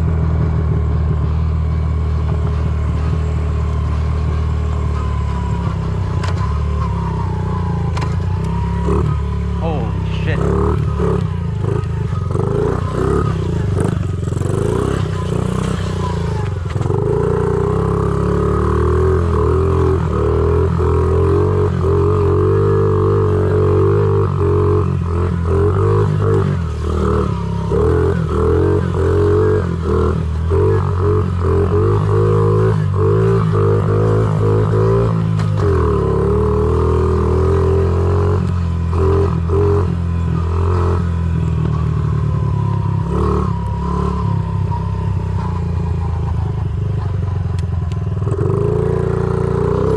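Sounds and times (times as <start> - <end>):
small motorbike engine revving: 4.2 - 44.8.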